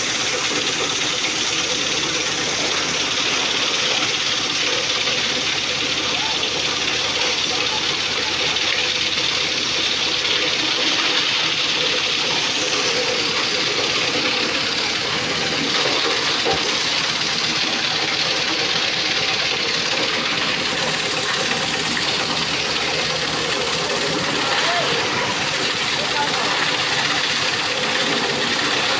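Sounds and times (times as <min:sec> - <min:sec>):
stationary engine running: 0:00.0 - 0:28.9.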